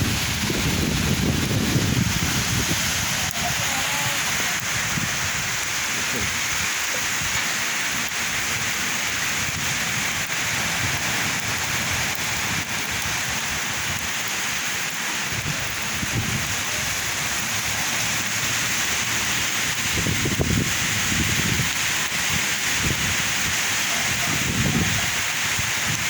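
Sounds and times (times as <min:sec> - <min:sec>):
heavy rain falling: 0:00.0 - 0:26.0
wind gusts buffeting microphone: 0:00.0 - 0:26.0.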